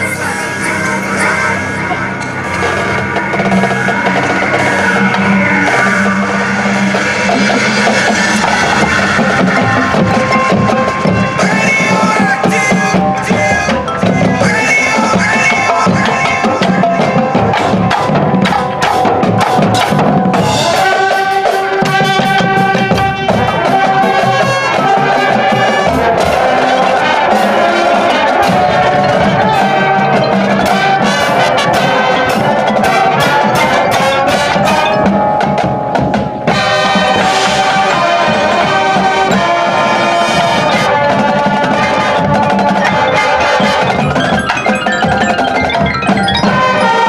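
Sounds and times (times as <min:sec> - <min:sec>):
brass chords: 0:00.0 - 0:47.0
marching band drums: 0:00.0 - 0:47.0.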